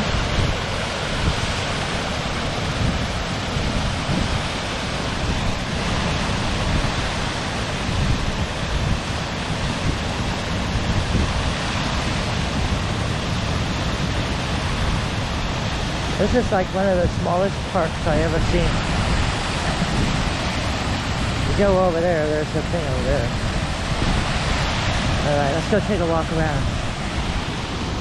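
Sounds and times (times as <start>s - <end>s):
waterfall rushing: 0.0s - 28.0s
wind buffeting microphone: 0.0s - 28.0s.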